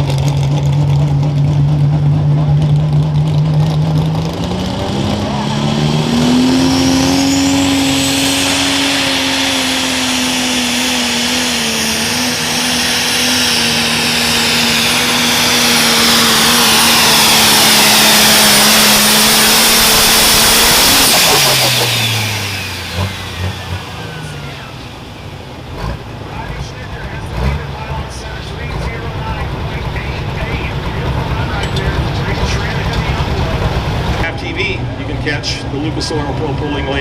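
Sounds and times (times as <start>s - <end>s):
diesel engine at full power: 0.0s - 37.0s.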